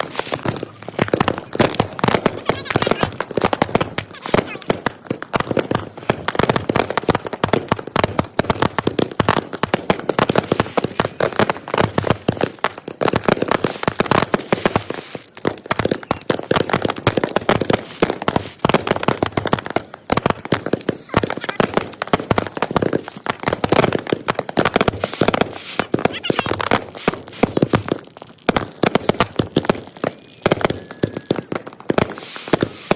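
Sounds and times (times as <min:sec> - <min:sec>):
fireworks and firecrackers banging: 0:00.0 - 0:32.9.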